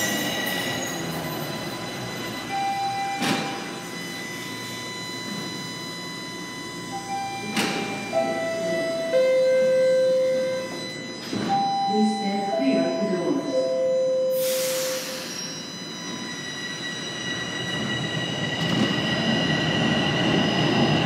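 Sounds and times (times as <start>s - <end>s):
electronic door chimes: 0.0s - 19.4s
subway train wheel squeal: 0.0s - 21.0s.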